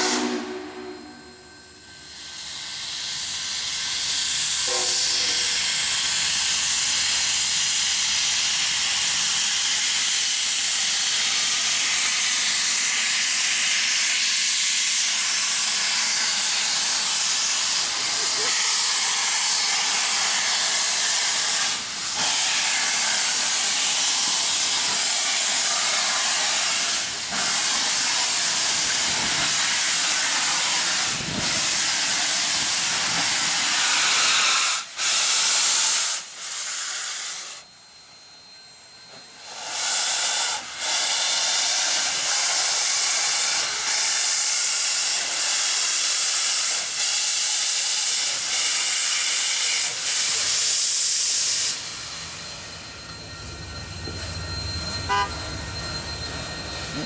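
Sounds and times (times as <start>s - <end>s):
steam locomotive venting steam: 0.0s - 57.0s.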